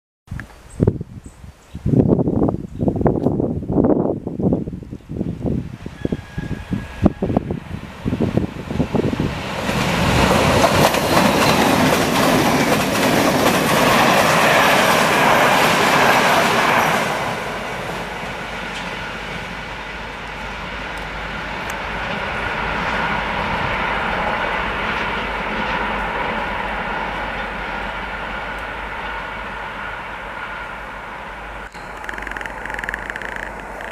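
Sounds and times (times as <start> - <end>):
wheels rushing on rail: 5.2 - 33.9
train passing at speed: 5.4 - 33.9.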